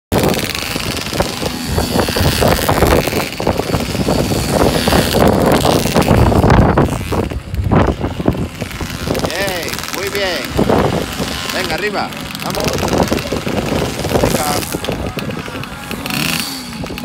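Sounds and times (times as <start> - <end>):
small two-stroke engine buzzing: 0.1 - 17.0.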